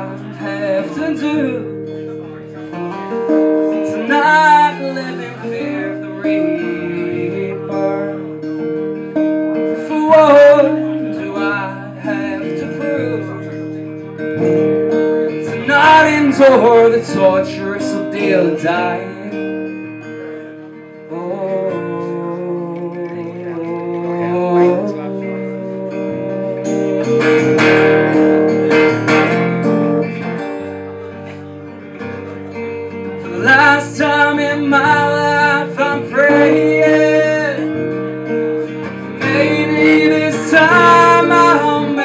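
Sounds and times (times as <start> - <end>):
man singing: 0.0 - 29.6, 31.4 - 42.0
acoustic guitar playing: 0.0 - 42.0.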